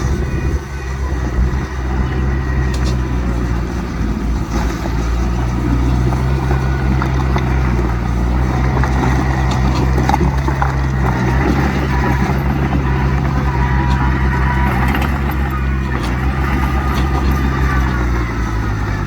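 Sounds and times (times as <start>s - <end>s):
heavy diesel machinery running: 0.0s - 19.0s.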